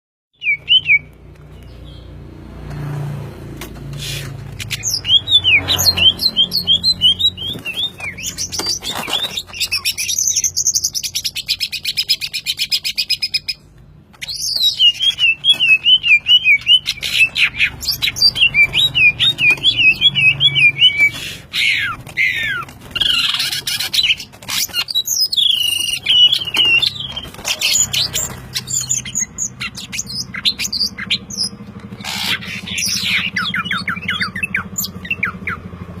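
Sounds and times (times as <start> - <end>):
bird singing trills: 0.3 - 2.2, 4.5 - 13.6, 14.2 - 35.8.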